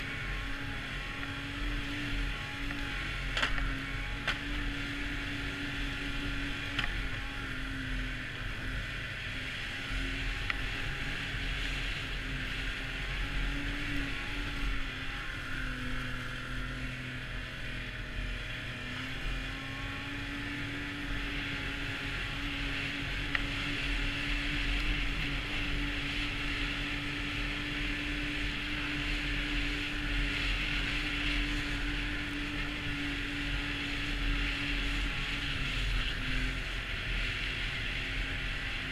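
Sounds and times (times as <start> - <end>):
snowmobile engine cruising: 0.0 - 38.9.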